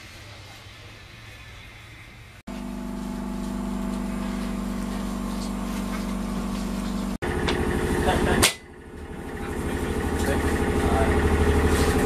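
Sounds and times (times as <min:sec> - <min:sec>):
tram mechanical hum: 0:00.3 - 0:12.0.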